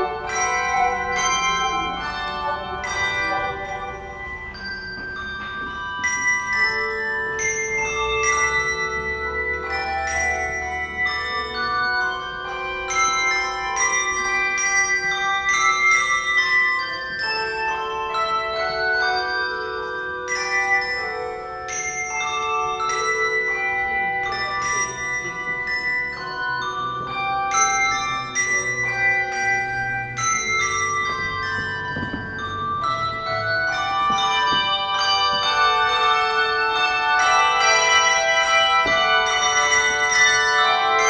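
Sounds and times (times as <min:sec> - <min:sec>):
handbell choir ringing: 0:00.0 - 0:41.0.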